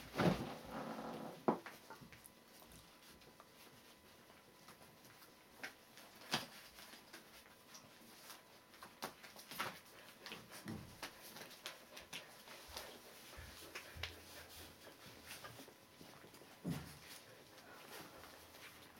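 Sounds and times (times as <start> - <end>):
puppies moving on a rug: 0.0 - 18.9.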